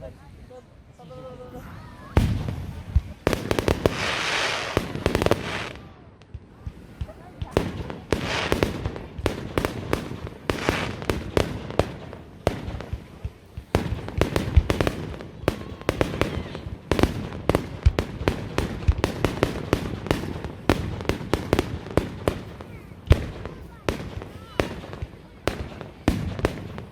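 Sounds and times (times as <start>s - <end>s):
fireworks bursts: 1.8s - 26.9s.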